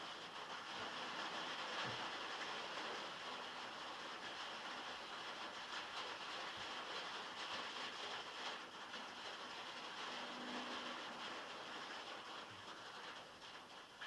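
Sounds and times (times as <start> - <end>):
heavy rain on metal roof: 0.0 - 14.0.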